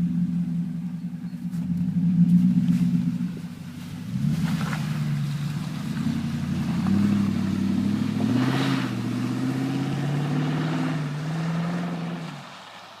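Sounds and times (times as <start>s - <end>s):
pickup truck engine revving: 0.0s - 12.5s.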